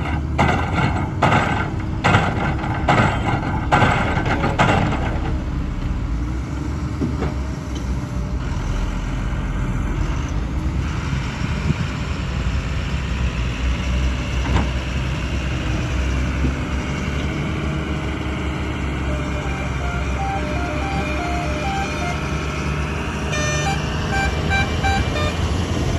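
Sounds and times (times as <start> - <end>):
heavy diesel engines rumbling: 0.0 - 25.9.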